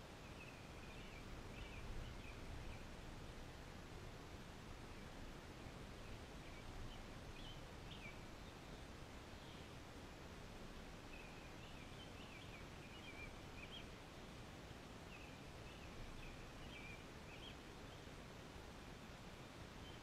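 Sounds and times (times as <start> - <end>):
faint songbird song: 0.0 - 20.0
quiet outdoor hiss: 0.0 - 20.0.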